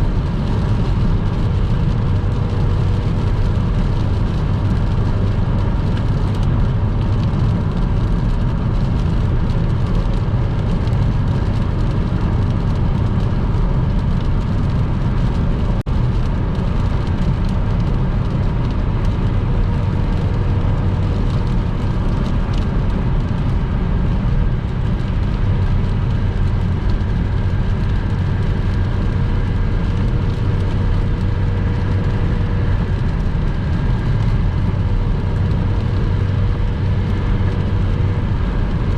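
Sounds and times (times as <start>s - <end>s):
car road noise on wet road: 0.0s - 38.9s.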